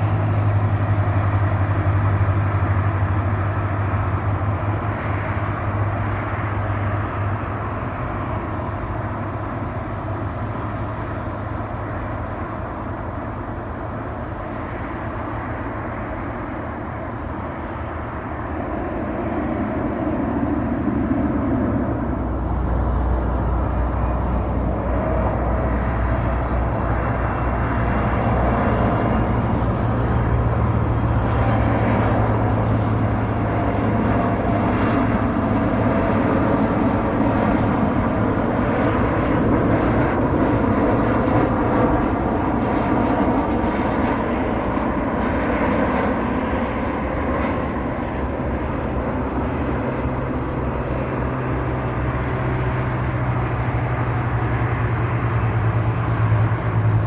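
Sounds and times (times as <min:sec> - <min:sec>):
jet low rumble with whine: 0:00.0 - 0:57.0
turboprop propeller drone: 0:00.0 - 0:57.0.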